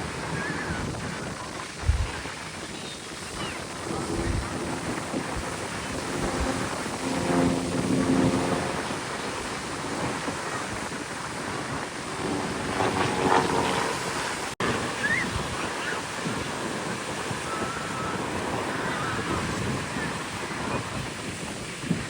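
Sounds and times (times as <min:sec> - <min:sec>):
faint voices: 0:00.0 - 0:22.0
rushing outdoor noise: 0:00.0 - 0:22.0
wind buffeting microphone: 0:00.0 - 0:22.0.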